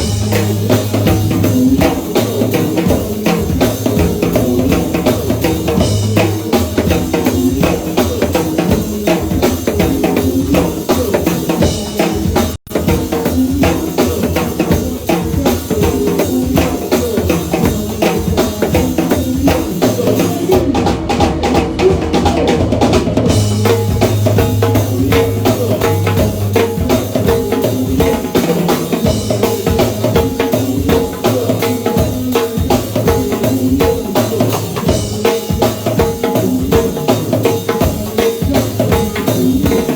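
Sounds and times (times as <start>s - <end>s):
drum kit beat: 0.0s - 39.9s
live band music: 0.0s - 39.9s.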